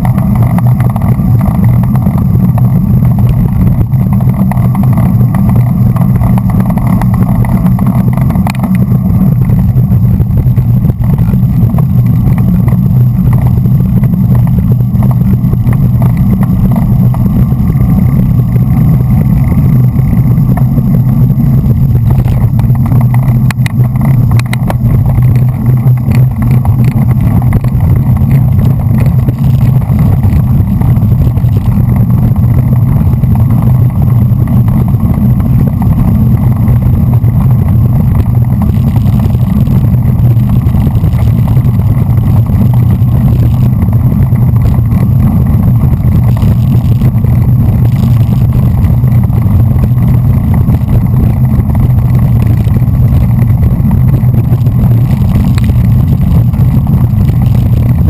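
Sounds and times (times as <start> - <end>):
wind rumble: 0.0 - 58.0.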